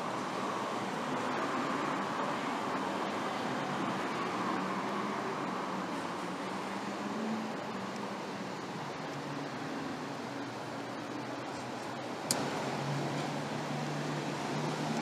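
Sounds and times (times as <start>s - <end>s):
city street traffic hum: 0.0s - 15.0s.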